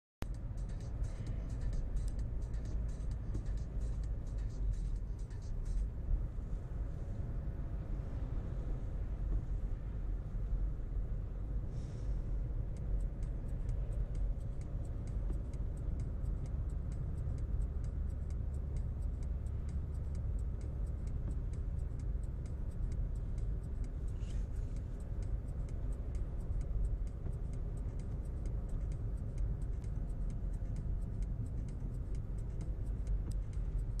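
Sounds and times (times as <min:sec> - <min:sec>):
faint fast ticking: 0:00.2 - 0:05.9, 0:11.8 - 0:34.0
car road and engine rumble: 0:00.2 - 0:34.0.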